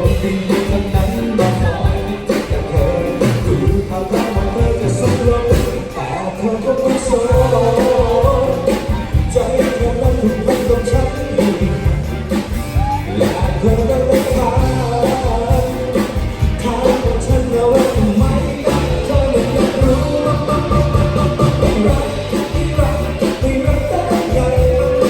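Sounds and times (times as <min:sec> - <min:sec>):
band playing over a beat: 0:00.0 - 0:25.0
person singing: 0:00.0 - 0:25.0.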